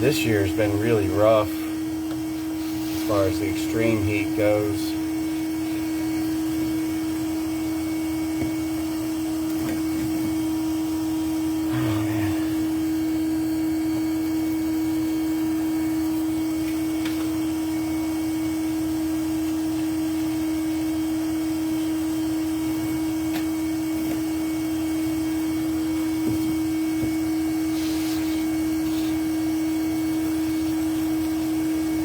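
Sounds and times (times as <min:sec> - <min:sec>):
vacuum humming: 0:00.0 - 0:32.0.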